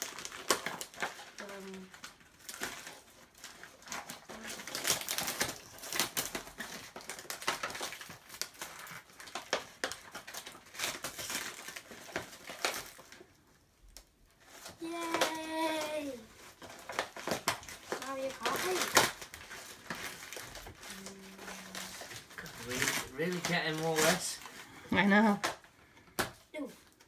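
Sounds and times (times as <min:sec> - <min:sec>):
wrapping paper tearing and crinkling: 0:00.0 - 0:27.0.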